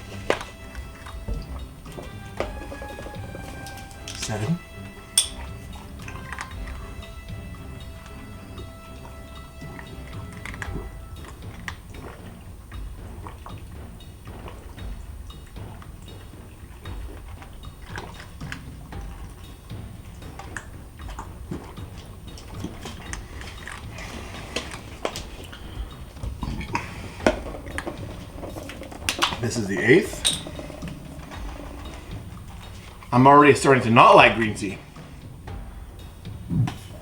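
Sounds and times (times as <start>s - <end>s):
man gulping: 0.0s - 33.3s, 34.8s - 37.0s
plastic bottle crackling: 0.0s - 35.7s.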